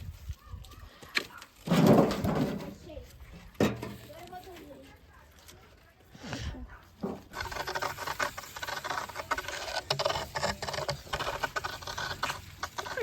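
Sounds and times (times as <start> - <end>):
firewood being handled: 0.0 - 13.0.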